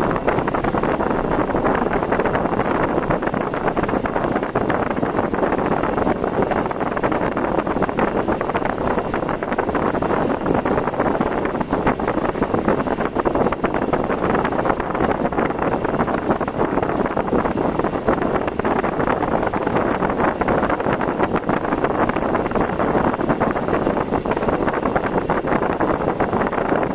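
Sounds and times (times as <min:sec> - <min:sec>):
road noise: 0:00.0 - 0:26.9
wind: 0:00.0 - 0:26.9.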